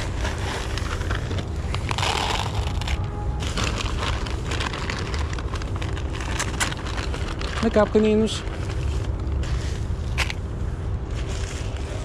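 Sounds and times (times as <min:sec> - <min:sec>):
plastic bag rustling: 0:00.0 - 0:10.4
steady low rumble: 0:00.0 - 0:12.0.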